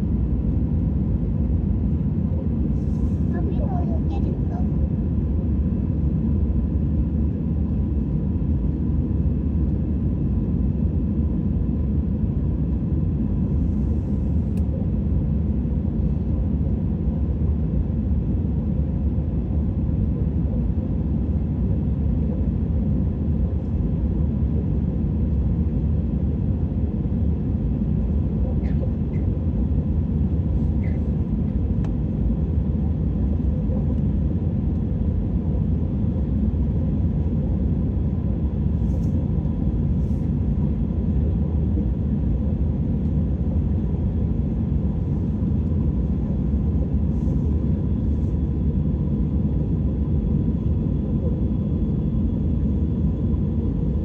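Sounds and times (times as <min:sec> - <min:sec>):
jet airliner cabin rumble: 0:00.0 - 0:54.0.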